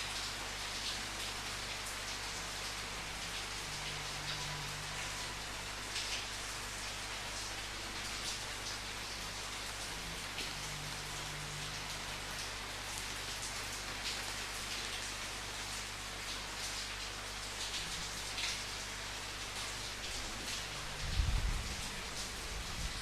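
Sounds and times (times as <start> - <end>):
rain falling: 0.0 - 23.0
raindrops pattering on a surface: 0.0 - 23.0.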